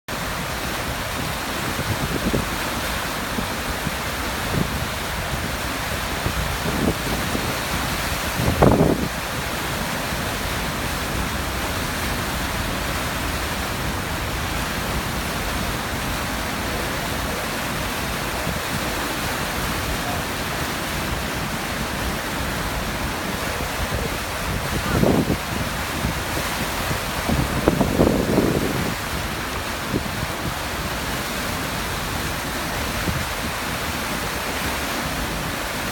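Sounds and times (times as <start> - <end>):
waterfall rushing: 0.1 - 35.9.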